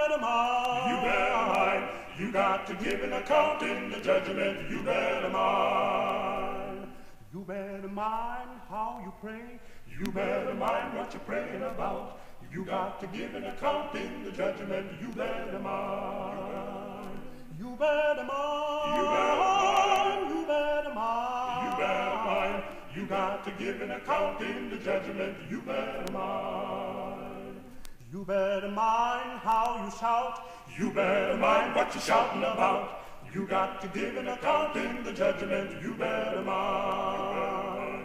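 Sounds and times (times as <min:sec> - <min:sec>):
male vocal quartet singing: 0:00.0 - 0:38.0.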